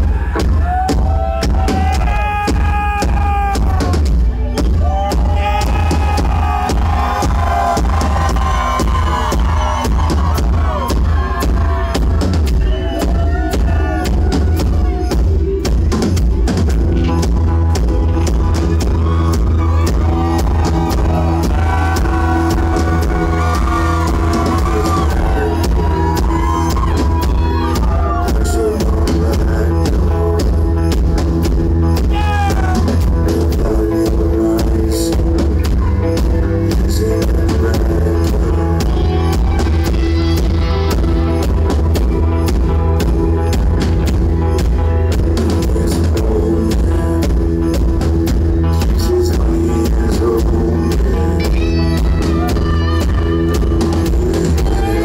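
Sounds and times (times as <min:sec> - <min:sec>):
drum kit beat: 0:00.0 - 0:55.0
electric guitars: 0:00.0 - 0:55.0.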